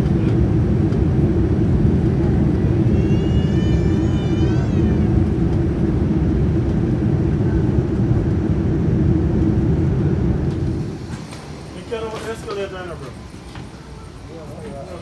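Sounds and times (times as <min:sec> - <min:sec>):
vehicle rumble from inside: 0:00.0 - 0:12.4.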